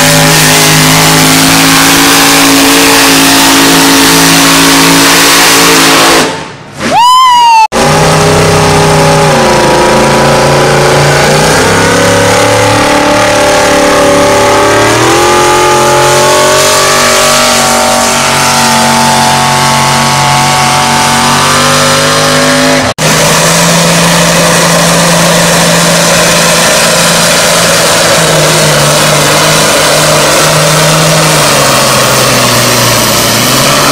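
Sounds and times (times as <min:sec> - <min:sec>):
vehicle engine running hard: 0:00.0 - 0:06.9, 0:07.8 - 0:33.9.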